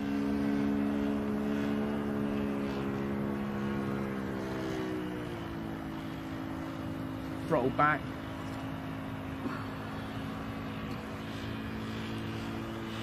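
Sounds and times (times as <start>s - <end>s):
model aircraft engine running: 0.0s - 13.0s.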